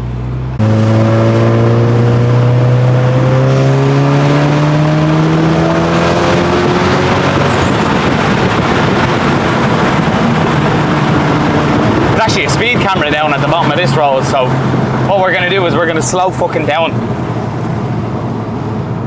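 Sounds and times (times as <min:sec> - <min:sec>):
car engine accelerating: 0:00.0 - 0:19.0
road and wind noise: 0:00.0 - 0:19.0.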